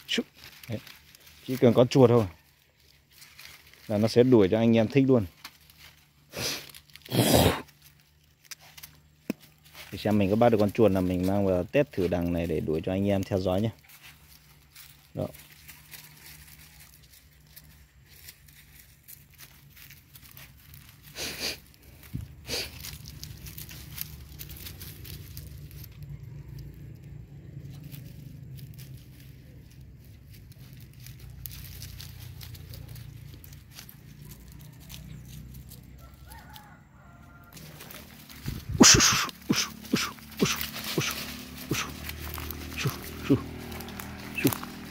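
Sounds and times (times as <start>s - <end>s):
dry leaves crunching underfoot: 0.0s - 44.9s.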